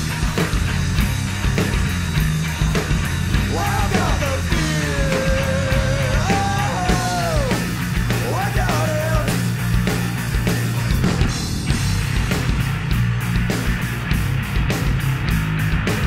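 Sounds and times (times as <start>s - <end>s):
heavy rock band playing: 0.0s - 16.0s.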